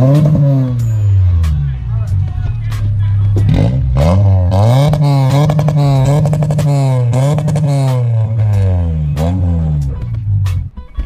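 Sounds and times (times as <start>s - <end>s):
car engine revving at limiter: 0.0s - 10.8s.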